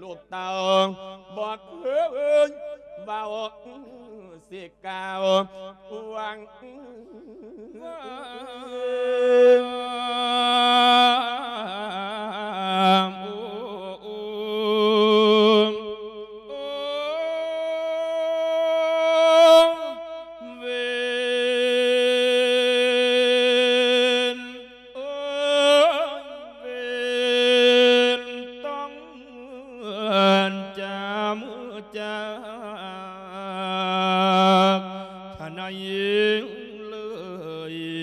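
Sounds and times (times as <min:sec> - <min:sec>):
monk chanting with vibrato: 0:00.0 - 0:38.0.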